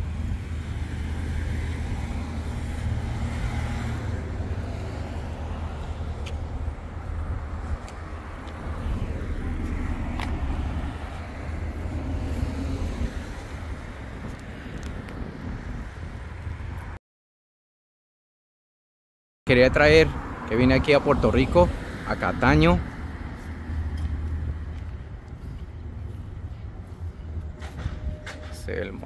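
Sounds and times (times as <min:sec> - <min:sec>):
cars passing: 0:00.0 - 0:17.0, 0:19.5 - 0:29.0.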